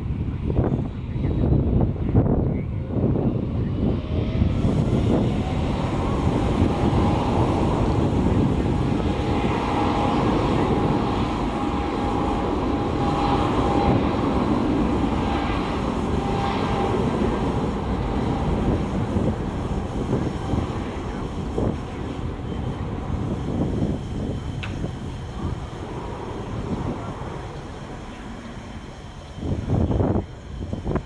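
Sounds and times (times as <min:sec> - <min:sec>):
jet engines rumbling and whining: 0:00.0 - 0:31.0.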